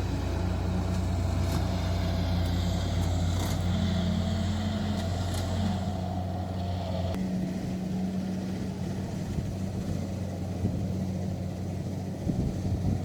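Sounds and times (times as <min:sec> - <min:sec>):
combine harvester engine and threshing: 0:00.0 - 0:13.0.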